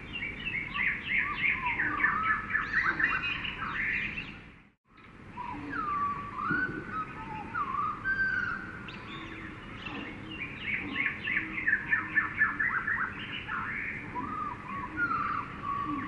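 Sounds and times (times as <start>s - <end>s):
birds calling: 0.0s - 16.0s
steady background hiss: 0.0s - 16.0s.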